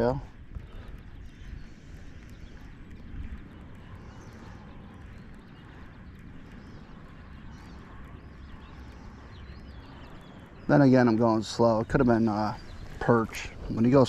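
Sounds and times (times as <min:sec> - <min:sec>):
faint bird calls: 0:00.0 - 0:14.0
wind rumble on microphone: 0:00.0 - 0:14.0.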